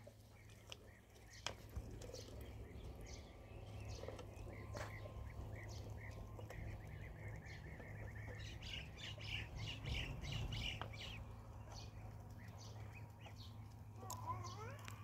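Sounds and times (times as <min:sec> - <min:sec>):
low hum: 0:00.0 - 0:14.0
ducklings peeping: 0:00.0 - 0:15.0.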